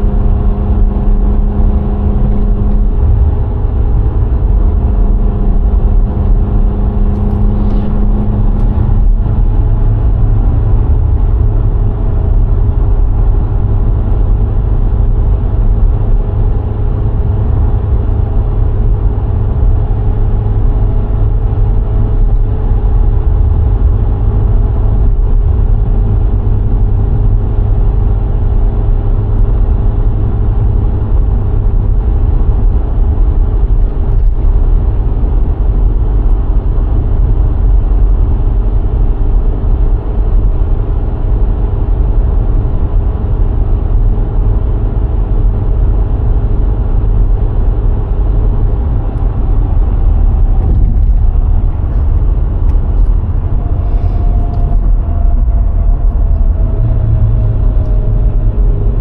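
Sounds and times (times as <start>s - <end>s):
car engine humming: 0.0s - 40.7s, 41.3s - 59.0s
road and wind noise: 0.0s - 59.0s.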